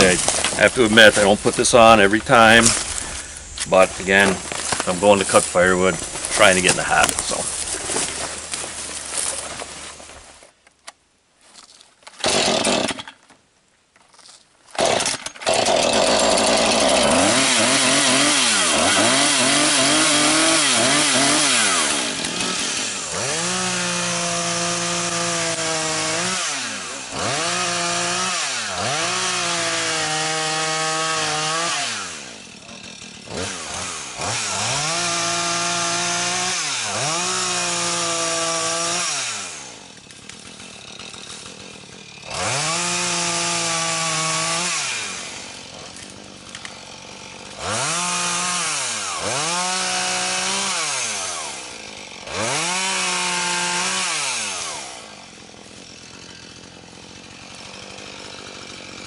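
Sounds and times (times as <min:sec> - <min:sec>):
chainsaw idling: 0:00.0 - 0:10.2, 0:12.2 - 0:13.0, 0:14.8 - 0:59.0
chainsaw cutting wood: 0:00.0 - 0:10.6, 0:12.0 - 0:13.4, 0:14.7 - 0:59.0.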